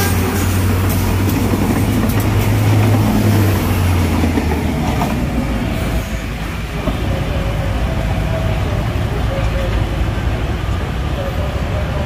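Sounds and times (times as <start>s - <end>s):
diesel train engine hum: 0.0s - 12.0s
train cars rumbling on track: 0.0s - 12.0s.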